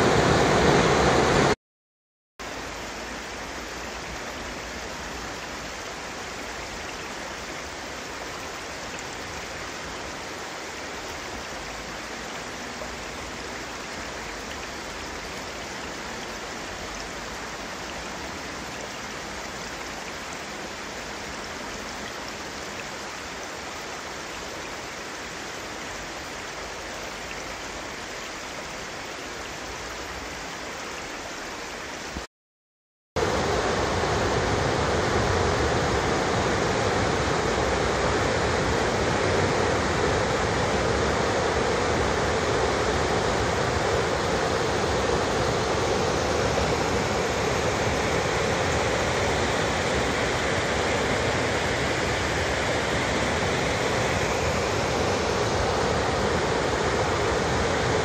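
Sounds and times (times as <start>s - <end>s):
waterfall rushing: 0.0s - 1.6s, 2.4s - 32.3s, 33.2s - 58.0s.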